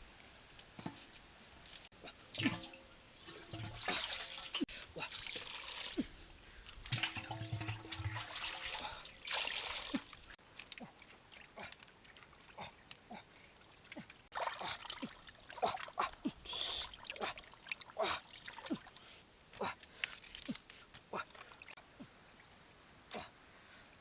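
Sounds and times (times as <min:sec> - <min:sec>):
water dripping: 0:00.6 - 0:23.0.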